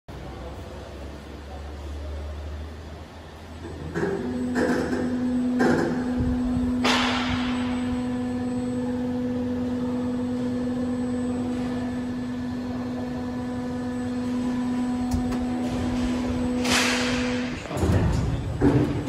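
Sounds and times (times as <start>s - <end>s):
machine motor hum: 0.1s - 19.0s.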